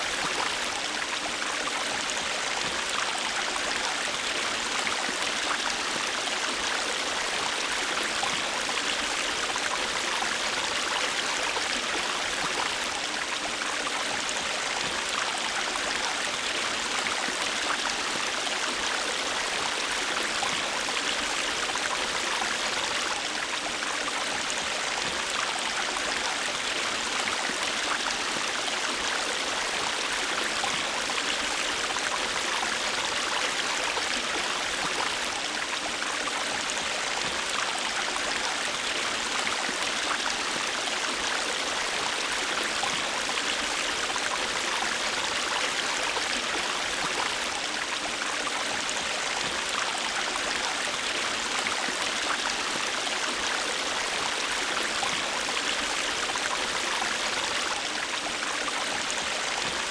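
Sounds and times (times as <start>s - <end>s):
stream flowing and splashing: 0.0s - 59.9s.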